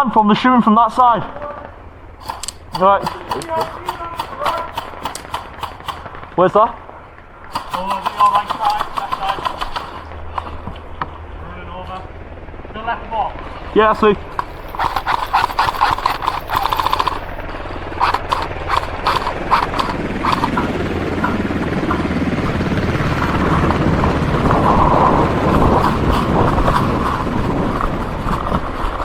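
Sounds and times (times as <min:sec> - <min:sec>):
steady rushing noise: 0:00.0 - 0:29.0
airsoft gun full-auto burst: 0:00.4 - 0:11.5, 0:12.5 - 0:29.0
airsoft shots snapping: 0:00.8 - 0:11.1, 0:13.6 - 0:29.0.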